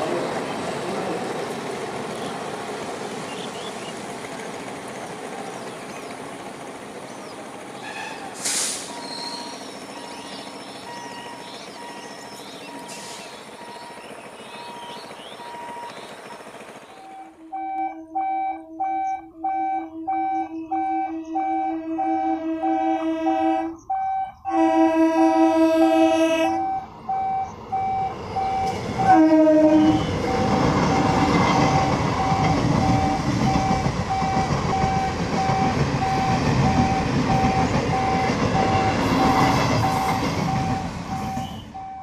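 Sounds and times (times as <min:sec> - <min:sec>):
electric train running past: 0:00.0 - 0:42.0.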